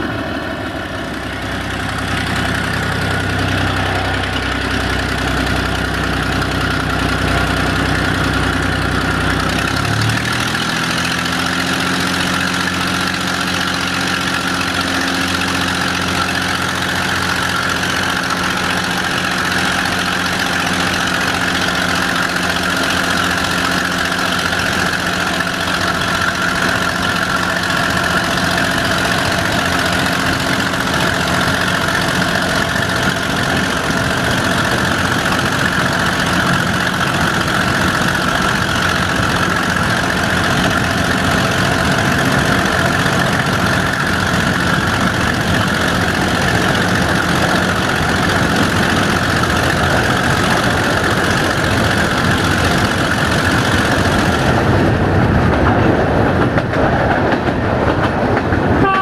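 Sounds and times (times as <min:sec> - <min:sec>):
diesel train engine running: 0:00.0 - 0:59.0
train rolling noise: 0:00.0 - 0:59.0.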